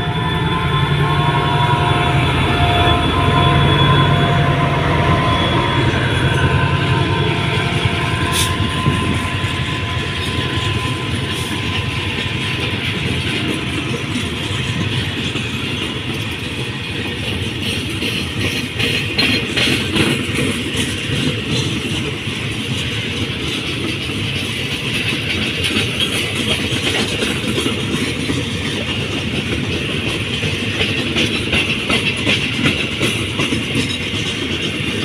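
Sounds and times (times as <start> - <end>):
diesel locomotive engine running: 0.0 - 35.0
train wheels rumbling over rails: 0.0 - 35.0.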